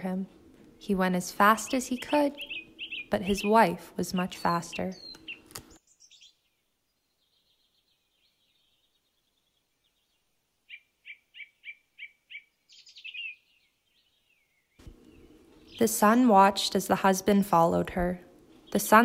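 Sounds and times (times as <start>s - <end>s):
bird singing: 0.8s - 16.8s, 17.9s - 19.0s.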